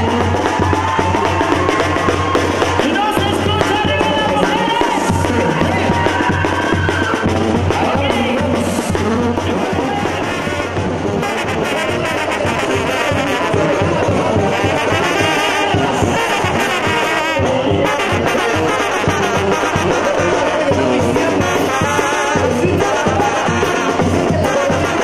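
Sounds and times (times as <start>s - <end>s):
bass drum: 0.0s - 25.0s
snare drum: 0.0s - 25.0s
trumpets playing melody: 0.0s - 25.0s.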